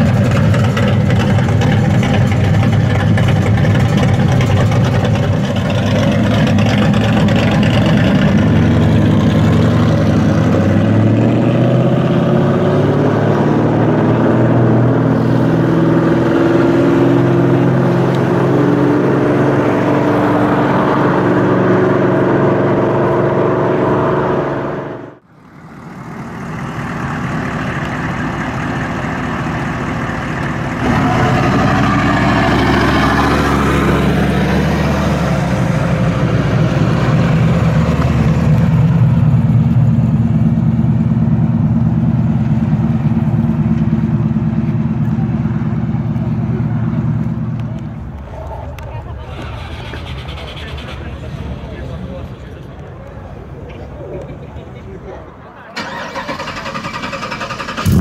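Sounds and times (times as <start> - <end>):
car engine accelerating: 0.0 - 58.0
second car engine running: 0.0 - 58.0.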